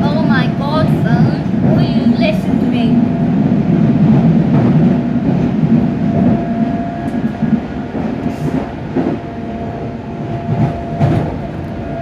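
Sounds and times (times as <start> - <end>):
steady train whine: 0.0 - 12.0
train rumbling inside carriage: 0.0 - 12.0.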